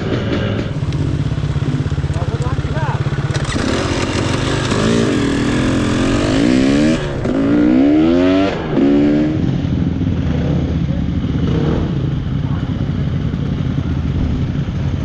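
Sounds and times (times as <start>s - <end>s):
engine running steadily: 0.0s - 15.0s
trail motorcycle engine revving: 0.0s - 15.0s.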